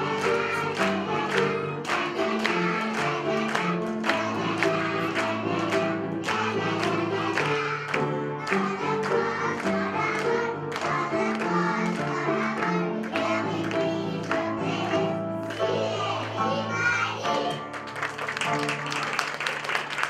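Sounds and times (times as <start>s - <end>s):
children singing together: 0.0s - 17.6s.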